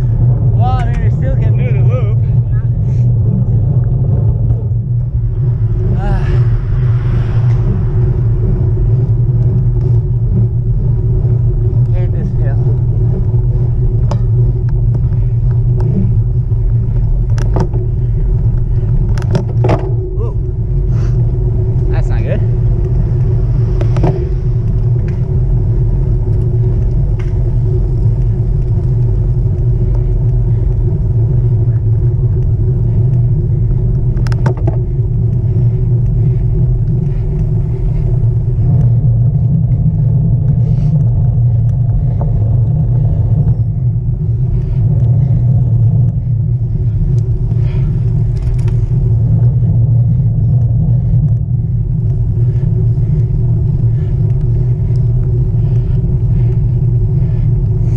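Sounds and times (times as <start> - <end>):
tyres humming on asphalt: 0.0 - 57.9
wind rumbling on microphone: 0.0 - 57.9.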